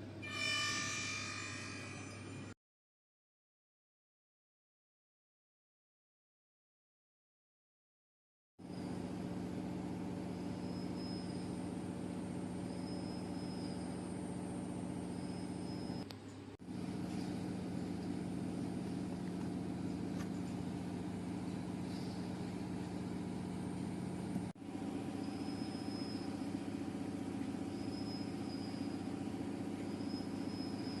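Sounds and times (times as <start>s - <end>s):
machinery humming: 0.0s - 2.6s, 8.6s - 31.0s.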